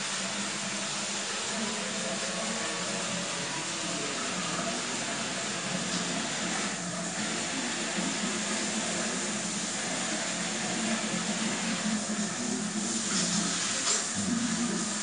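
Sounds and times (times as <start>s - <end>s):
shower water spraying: 0.0s - 15.0s.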